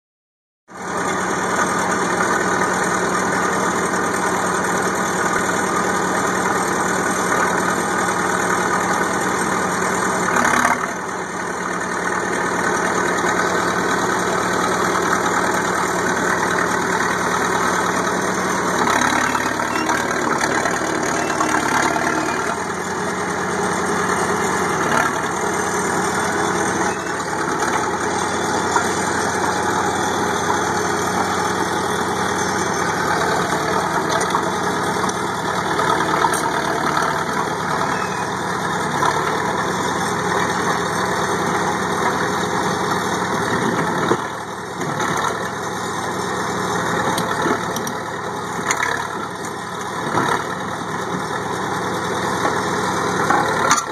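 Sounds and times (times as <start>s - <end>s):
diesel engine running: 0.7s - 53.9s.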